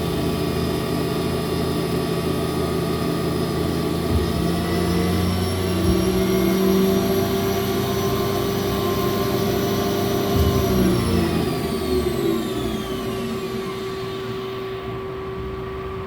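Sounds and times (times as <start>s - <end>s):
lathe spindle whine: 0.0s - 16.0s.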